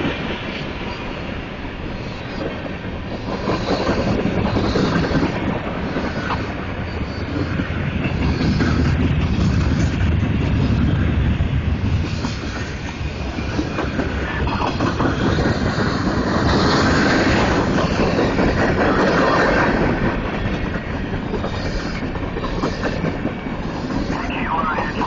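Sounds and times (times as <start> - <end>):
train wheels clattering over rail joints: 1.9 - 11.1, 11.8 - 24.2.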